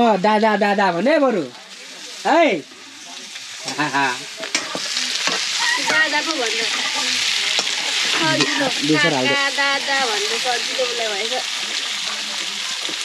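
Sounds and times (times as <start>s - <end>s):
pork sizzling in a wok: 0.0s - 13.0s
voices: 1.5s - 13.0s
spatula stirring in a wok: 1.6s - 13.0s.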